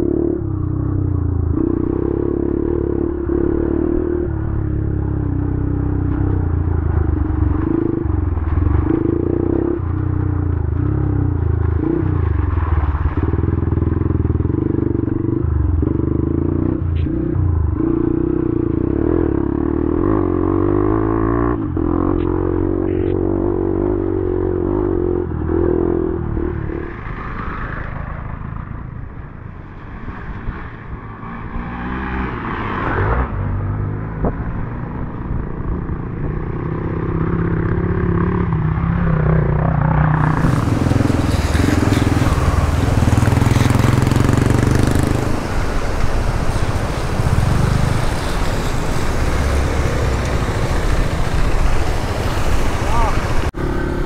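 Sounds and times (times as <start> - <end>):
motorcycle engine revving: 0.0 - 27.9, 31.0 - 54.0.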